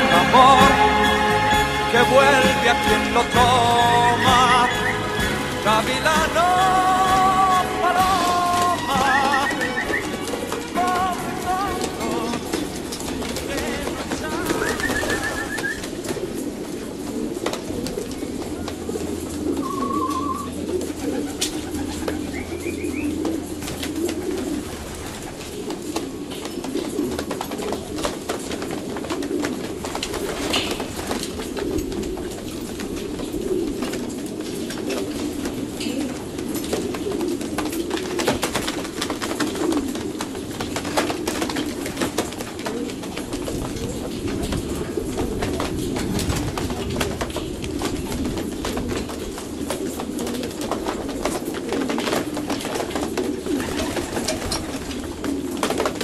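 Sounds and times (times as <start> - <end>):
pigeons cooing: 2.8 - 56.0.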